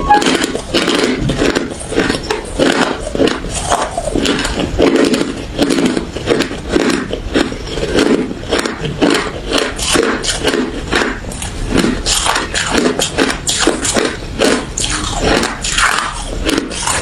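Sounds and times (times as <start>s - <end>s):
crushed ice being chewed: 0.0s - 17.0s.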